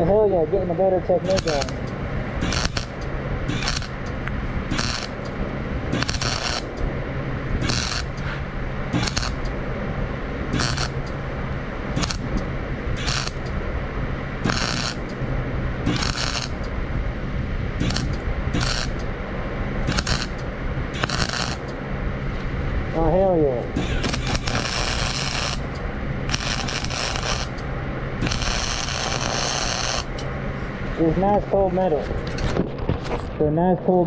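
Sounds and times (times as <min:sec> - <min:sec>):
arc welding crackling sizzle: 0:01.1 - 0:09.7, 0:10.4 - 0:13.6, 0:14.3 - 0:19.2, 0:19.8 - 0:23.1, 0:23.7 - 0:31.3.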